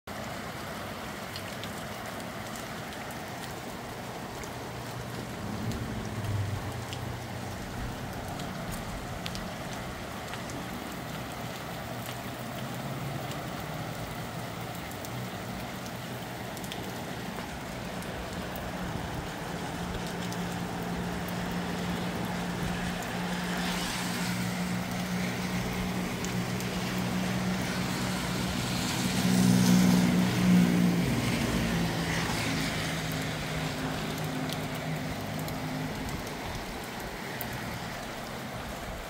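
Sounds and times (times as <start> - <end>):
raindrops ticking: 0.1 - 39.0
steady rain: 0.1 - 39.0.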